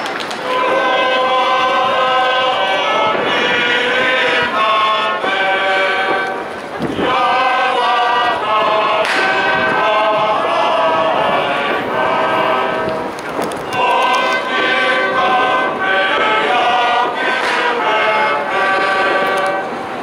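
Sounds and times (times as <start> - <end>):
sharp crack: 0.0 - 10.7, 11.5 - 19.7
male choir singing: 0.4 - 20.0.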